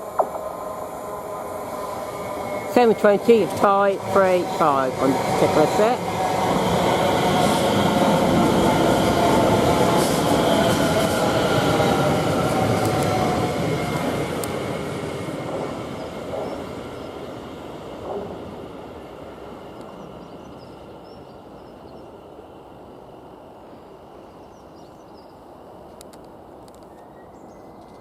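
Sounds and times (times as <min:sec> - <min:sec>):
electric train running with whine: 0:00.0 - 0:23.6.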